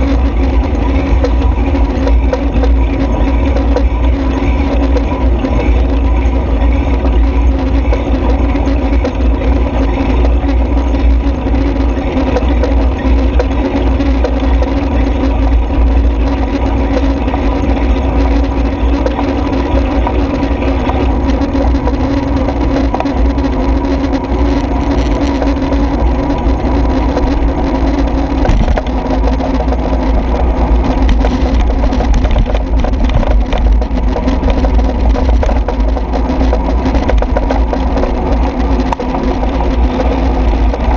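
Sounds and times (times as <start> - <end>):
cycle rolling noise and hum: 0.0 - 40.9
rattling clicks on rough paving: 0.0 - 40.9.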